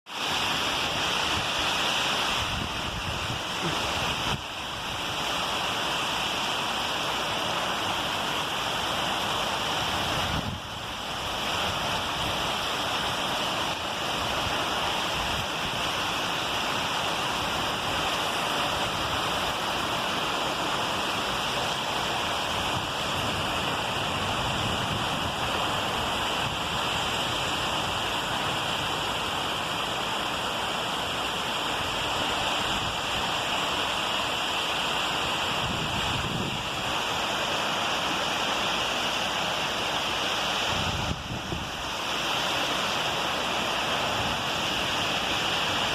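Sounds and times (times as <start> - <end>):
heavy rain pouring: 0.1 - 45.9.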